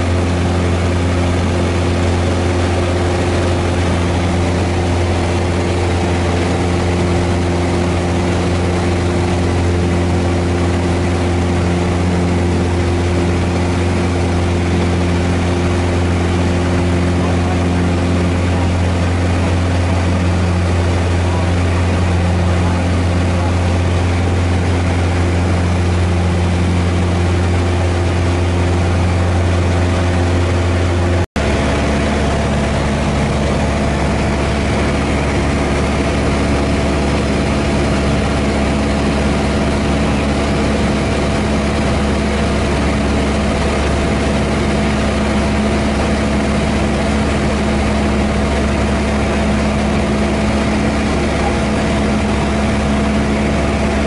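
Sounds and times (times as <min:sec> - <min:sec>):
light airplane engine and propeller: 0:00.0 - 0:54.0.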